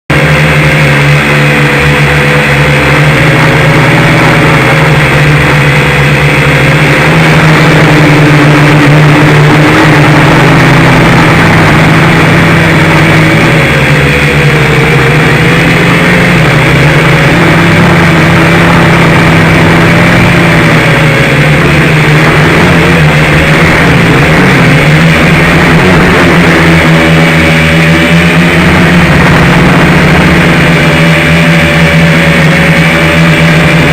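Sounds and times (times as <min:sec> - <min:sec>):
quadcopter propellers buzzing: 0:00.1 - 0:33.9.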